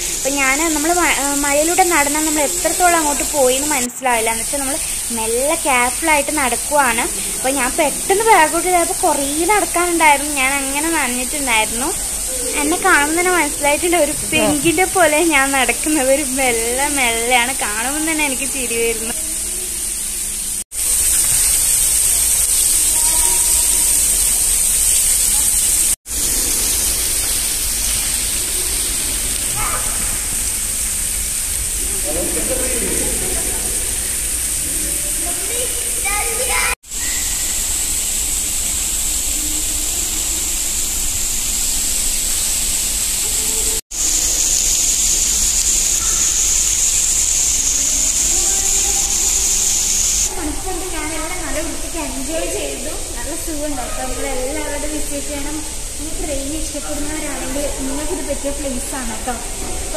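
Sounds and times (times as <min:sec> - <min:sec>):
water spraying onto metal grated floor: 0:00.0 - 0:59.9.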